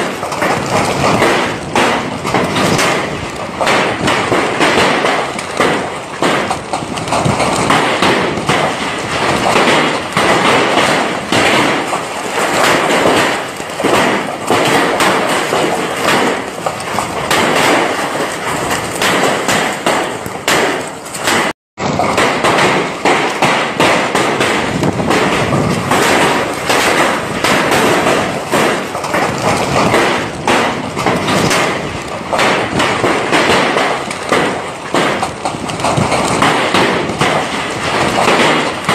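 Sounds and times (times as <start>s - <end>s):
gusting wind: 0.0s - 38.9s
heavy rain: 0.0s - 38.9s
raindrops pattering: 0.0s - 38.9s.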